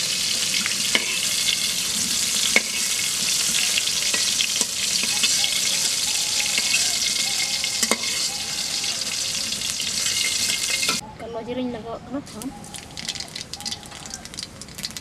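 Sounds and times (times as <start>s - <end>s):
vegetables sizzling in hot oil: 0.0s - 11.0s, 12.6s - 15.0s.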